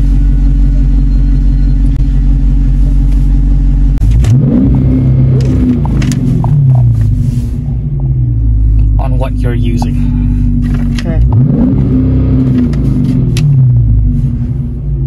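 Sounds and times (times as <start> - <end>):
car engine droning and revving: 0.0 - 15.0.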